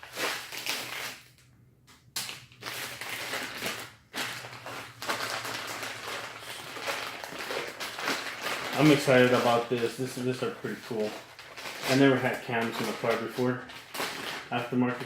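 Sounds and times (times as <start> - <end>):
packaging wrap crinkling: 0.0 - 1.4, 2.2 - 15.0.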